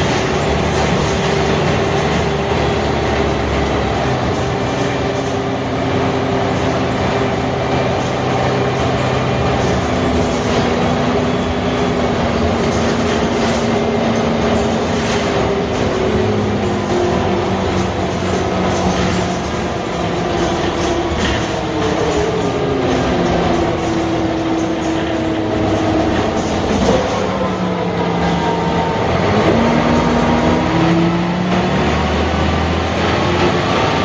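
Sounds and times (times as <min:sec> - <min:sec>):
bus diesel engine running: 0:00.0 - 0:34.0
road and body rumble: 0:00.0 - 0:34.0.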